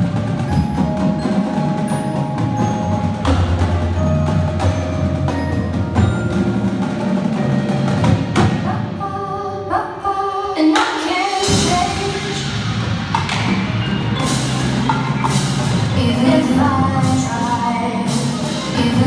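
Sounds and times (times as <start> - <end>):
marimbas playing melodic notes: 0.0 - 8.6, 11.4 - 19.0
drums: 0.0 - 19.0.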